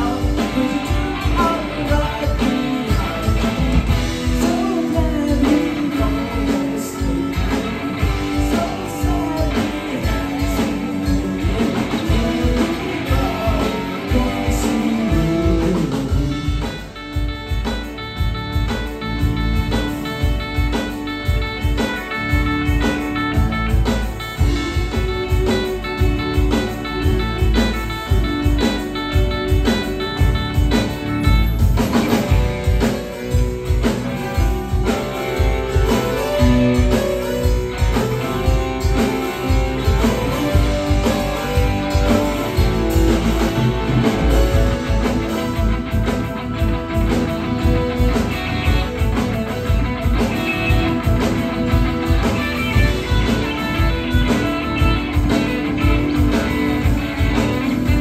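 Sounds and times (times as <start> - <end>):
bass guitar: 0.0 - 58.0
drum kit: 0.0 - 58.0
electric guitar: 0.0 - 58.0
keyboard: 0.0 - 58.0.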